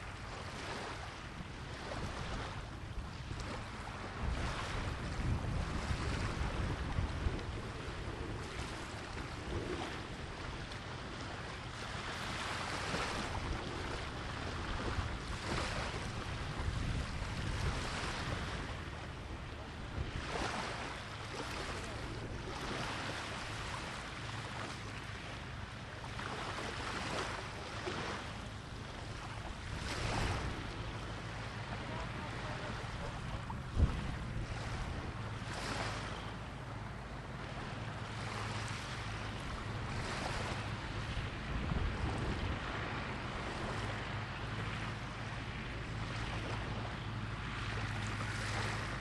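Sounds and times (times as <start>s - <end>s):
wind buffeting microphone: 0.0s - 25.4s, 27.9s - 49.0s
surf breaking on shore: 0.0s - 49.0s.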